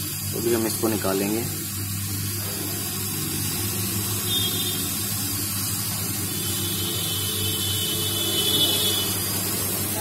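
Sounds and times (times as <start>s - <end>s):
hot-air station hissing: 0.0s - 10.0s.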